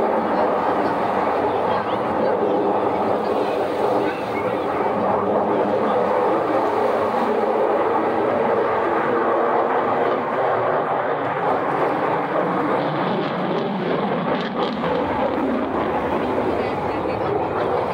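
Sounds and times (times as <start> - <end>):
fighter jet flying overhead: 0.0 - 17.9.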